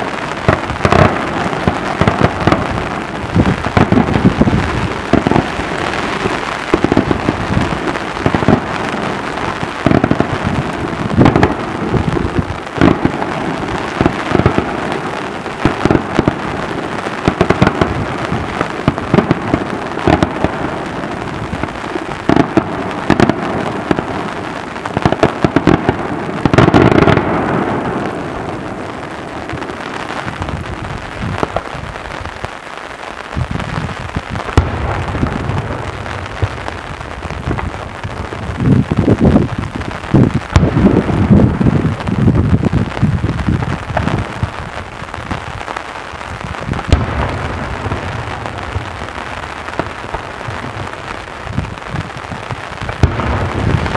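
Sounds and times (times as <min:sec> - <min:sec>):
fireworks bangs: 0:00.0 - 0:53.9
fireworks crackling: 0:00.0 - 0:53.9.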